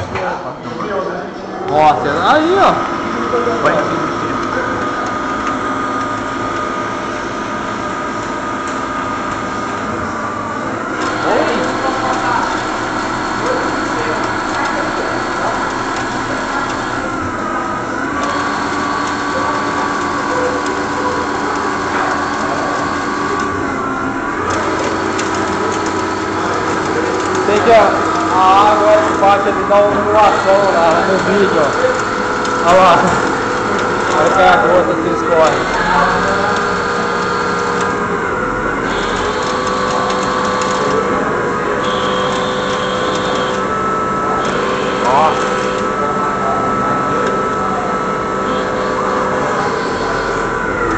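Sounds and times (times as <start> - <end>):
lathe whine: 1.8 - 50.9.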